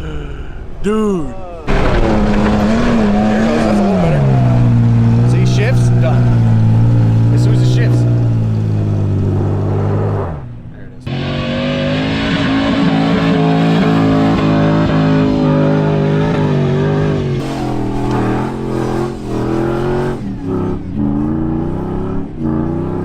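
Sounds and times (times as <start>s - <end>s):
vehicle engine revving: 1.7s - 23.0s.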